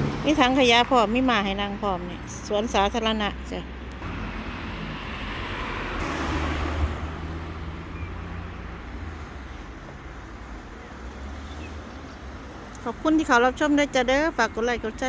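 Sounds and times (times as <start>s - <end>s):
car passing: 0.0s - 2.4s, 3.3s - 14.5s
low rumble of traffic: 0.0s - 15.0s.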